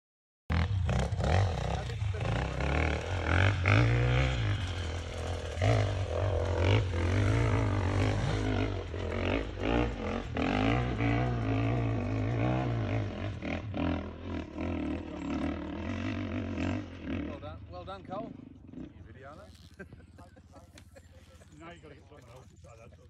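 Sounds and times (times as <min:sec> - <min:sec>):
dirt bike engine revving: 0:00.5 - 0:22.8.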